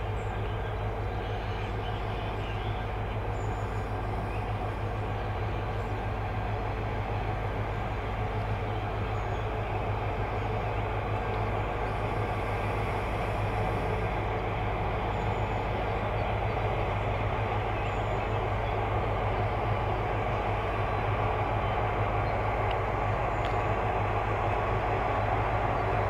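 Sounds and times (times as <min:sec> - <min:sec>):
electric locomotives humming: 0:00.0 - 0:26.0.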